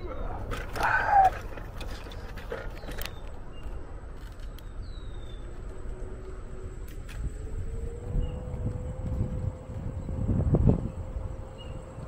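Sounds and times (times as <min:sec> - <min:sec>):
distant vehicle hum: 0:00.0 - 0:12.0
wind rumbling on microphone: 0:00.0 - 0:12.0.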